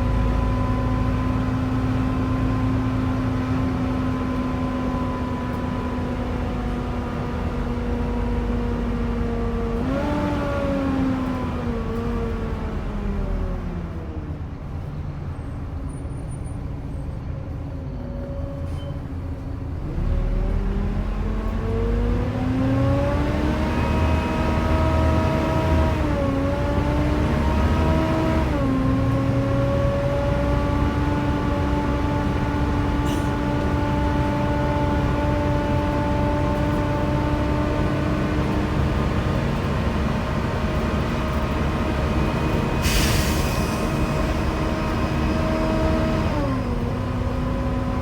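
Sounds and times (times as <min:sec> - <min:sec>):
bus engine with whining tone: 0:00.0 - 0:48.0.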